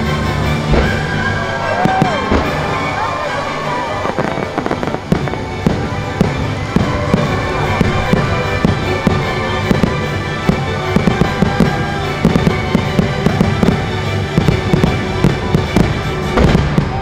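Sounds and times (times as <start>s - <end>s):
fireworks cracks and booms: 0.0s - 17.0s
show music: 0.0s - 17.0s.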